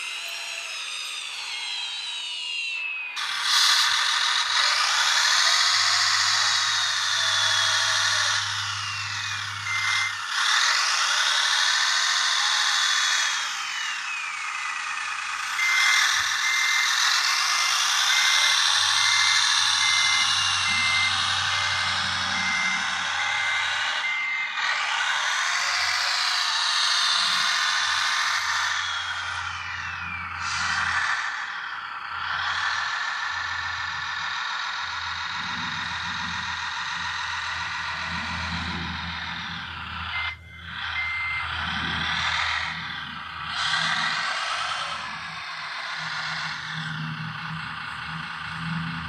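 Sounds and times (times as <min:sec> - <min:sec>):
low engine-like hum: 0:00.0 - 0:11.0, 0:13.4 - 0:26.3, 0:27.0 - 0:49.0
electric motors whining: 0:00.0 - 0:49.0
electronic reversing beeper: 0:00.0 - 0:49.0.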